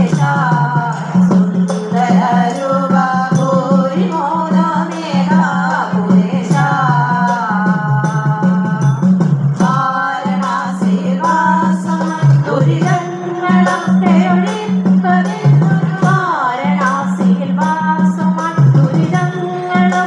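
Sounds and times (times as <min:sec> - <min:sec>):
group of people singing: 0:00.0 - 0:20.0
sharp percussion strikes: 0:00.0 - 0:20.0.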